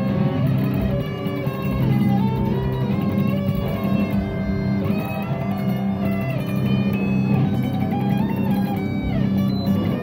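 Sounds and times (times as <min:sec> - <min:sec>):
heavy metal electric guitar: 0:00.0 - 0:10.0.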